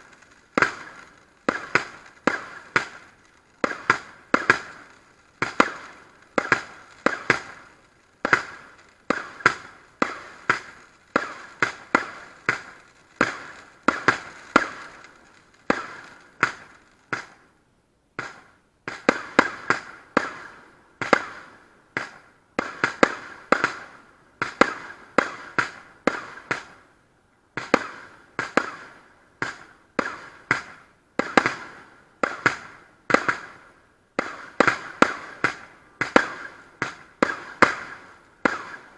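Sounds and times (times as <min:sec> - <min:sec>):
fireworks bangs: 0:00.0 - 0:17.5, 0:18.2 - 0:26.8, 0:27.6 - 0:38.9.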